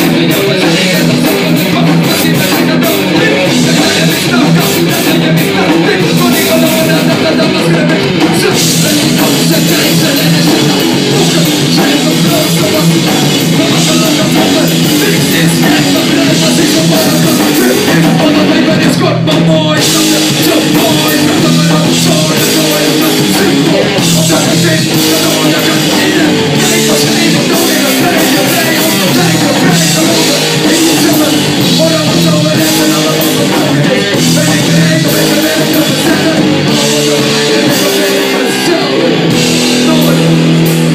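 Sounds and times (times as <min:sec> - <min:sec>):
electric bass: 0:00.0 - 0:40.9
rock drum kit: 0:00.0 - 0:40.9.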